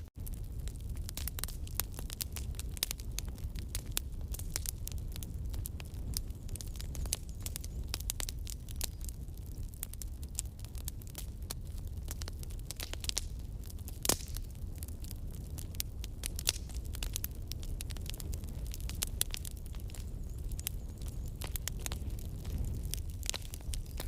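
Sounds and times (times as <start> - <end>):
rumble of flames: 0.0 - 24.0
wood crackling and popping: 0.0 - 24.0.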